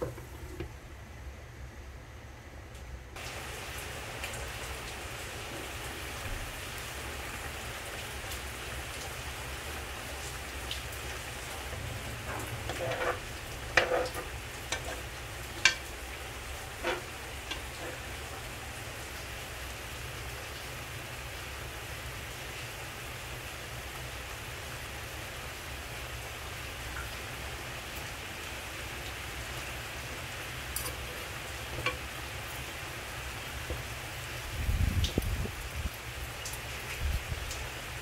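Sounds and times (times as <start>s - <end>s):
chicken sizzling in a pan: 3.2s - 34.5s.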